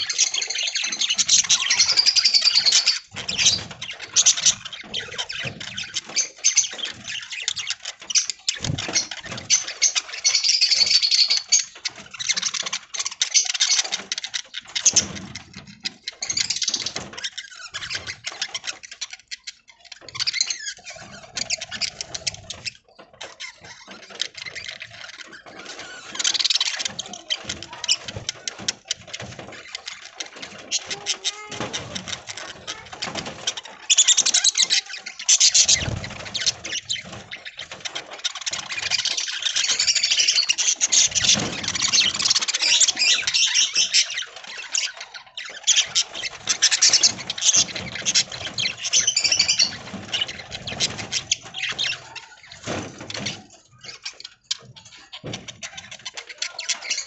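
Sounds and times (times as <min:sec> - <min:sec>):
budgies chirping and chattering: 0:00.0 - 0:57.0.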